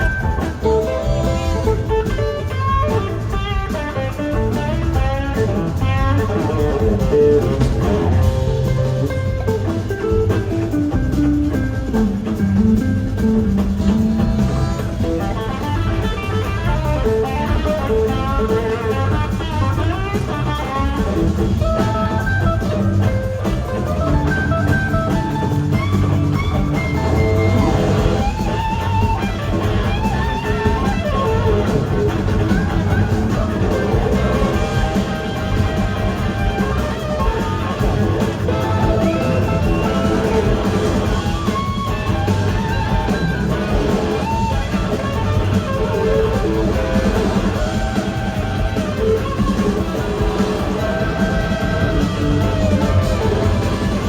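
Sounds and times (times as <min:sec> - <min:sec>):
bass guitar: 0:00.0 - 0:54.0
drums: 0:00.0 - 0:54.0
electric guitar soloing: 0:00.0 - 0:54.0.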